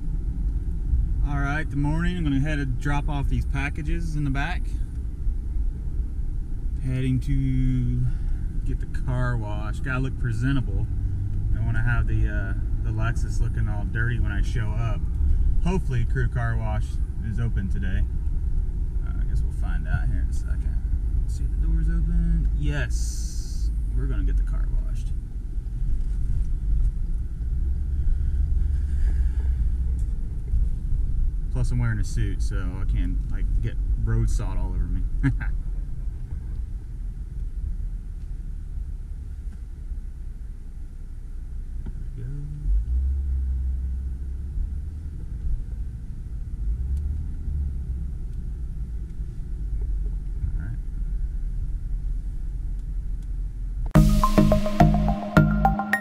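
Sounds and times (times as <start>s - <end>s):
car cabin engine and road rumble: 0.0s - 54.0s.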